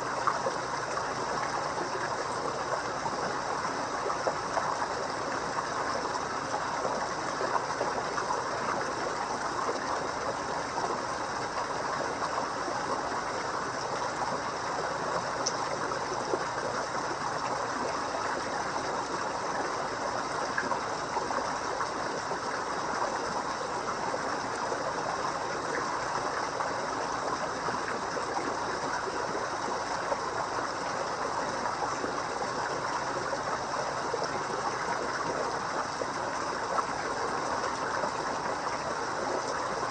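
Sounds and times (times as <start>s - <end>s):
water babbling in a pond: 0.0s - 39.9s.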